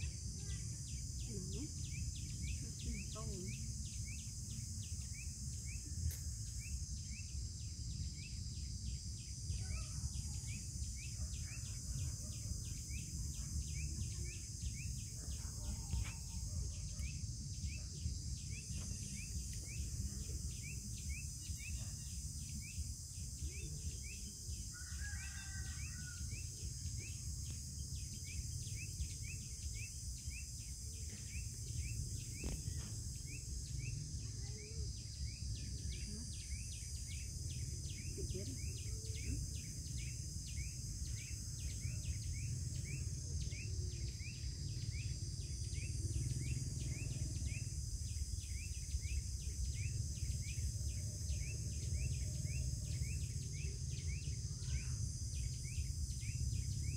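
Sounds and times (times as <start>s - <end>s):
insects buzzing and chirping: 0.0s - 56.9s.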